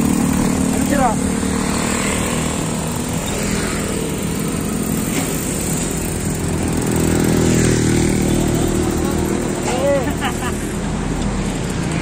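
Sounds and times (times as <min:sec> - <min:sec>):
small engine running: 0:00.0 - 0:10.5.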